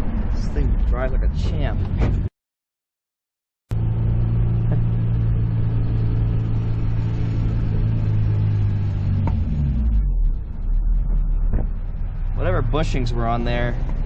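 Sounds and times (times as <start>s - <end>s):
car engine pulling steadily: 0.0s - 2.3s, 3.7s - 14.0s.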